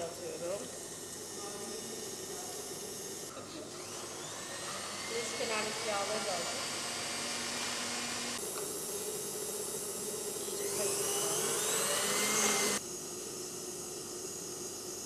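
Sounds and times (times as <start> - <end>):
stand mixer motor whine: 0.0 - 15.0.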